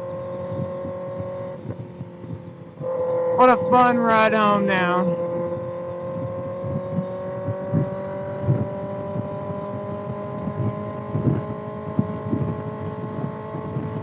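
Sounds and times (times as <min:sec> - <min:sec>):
motorcycle engine cruising: 0:00.0 - 0:14.0
wind buffeting microphone: 0:00.0 - 0:14.0.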